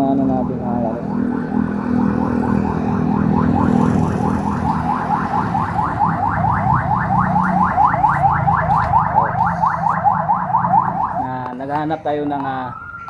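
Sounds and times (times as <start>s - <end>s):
vehicle alarm siren whooping: 0.0s - 13.0s.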